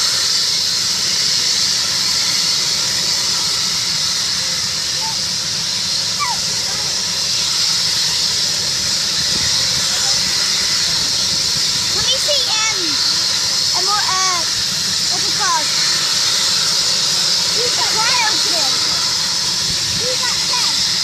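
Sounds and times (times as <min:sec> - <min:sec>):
helicopter engines and rotors hissing: 0:00.0 - 0:21.0.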